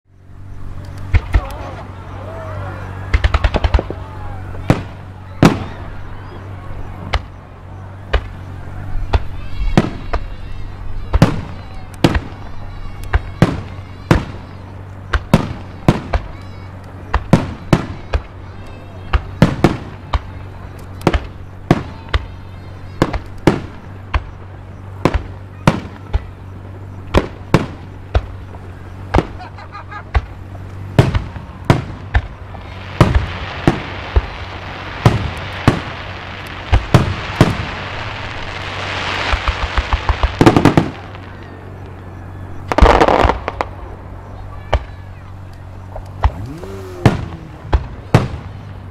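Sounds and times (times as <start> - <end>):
firework shells bursting: 3.1 - 5.8, 11.0 - 48.9.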